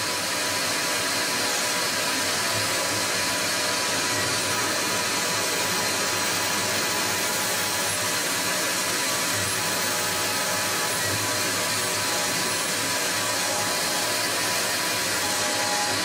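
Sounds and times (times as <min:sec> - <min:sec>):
lathe spindle whirring: 0:00.0 - 0:16.0.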